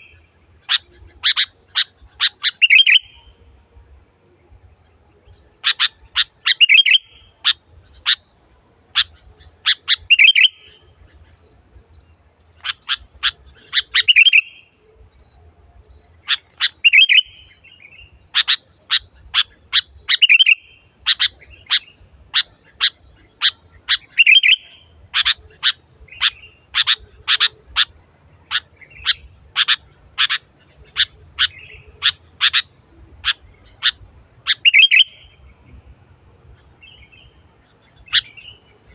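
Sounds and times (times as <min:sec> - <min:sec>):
bulbul singing: 0:00.0 - 0:03.5, 0:04.6 - 0:35.7, 0:36.4 - 0:38.9.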